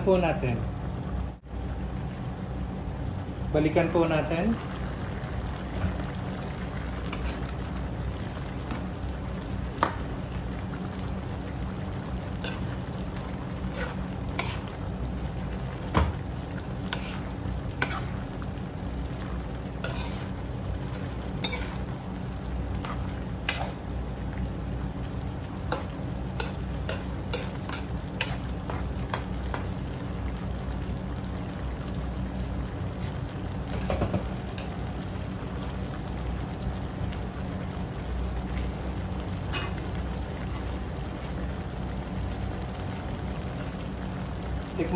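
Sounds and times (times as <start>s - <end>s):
stew sizzling: 0.0s - 44.9s.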